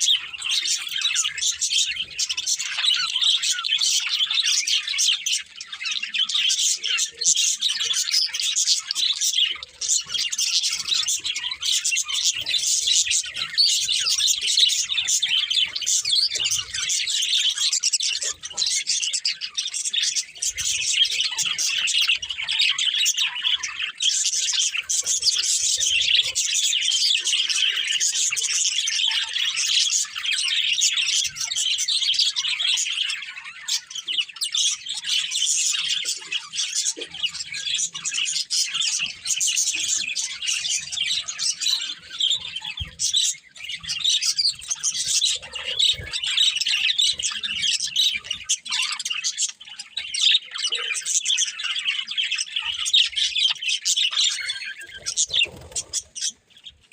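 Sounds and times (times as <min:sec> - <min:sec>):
budgerigars chirping: 0:00.0 - 0:56.9.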